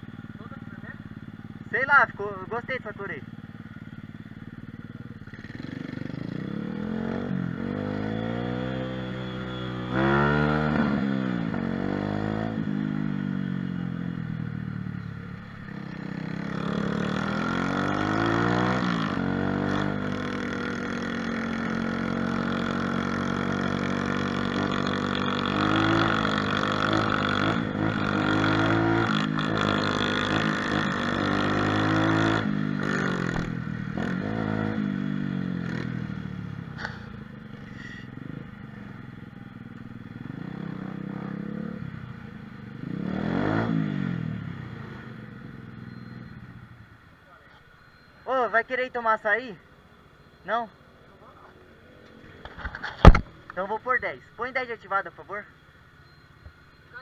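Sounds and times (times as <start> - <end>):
pit bike engine accelerating: 0.0 - 46.8, 51.2 - 57.0.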